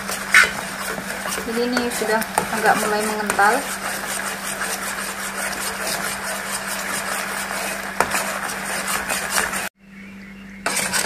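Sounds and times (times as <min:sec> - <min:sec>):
utensil scraping in a pan: 0:00.0 - 0:09.7, 0:10.7 - 0:11.0.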